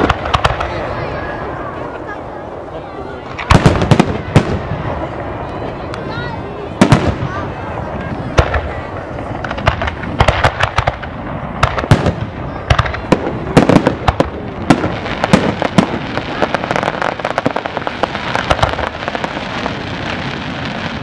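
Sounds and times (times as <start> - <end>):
background rumble and crackle: 0.0 - 21.0
fireworks bursting: 0.0 - 21.0.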